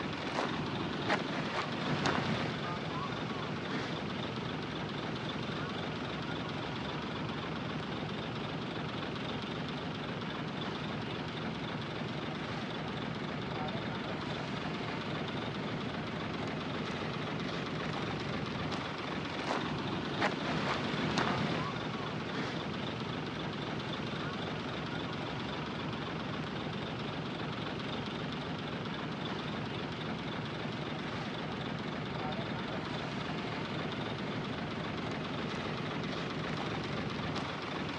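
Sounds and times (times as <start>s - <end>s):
diesel earthmoving machinery engine: 0.0s - 37.9s.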